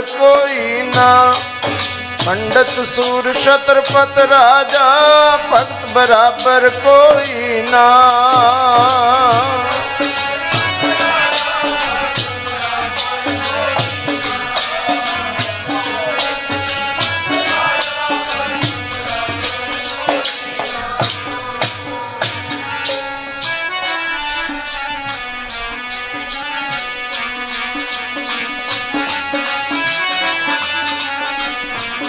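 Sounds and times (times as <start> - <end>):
harmonium melody: 0.0 - 32.0
jingling hand percussion: 0.0 - 32.0.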